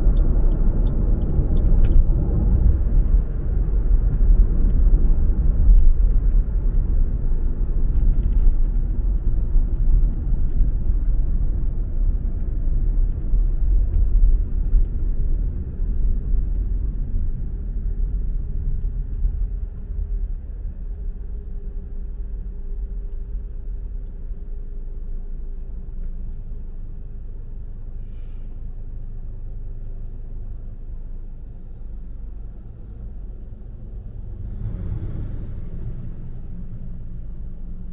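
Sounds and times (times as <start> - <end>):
car road and engine rumble: 0.0 - 37.9.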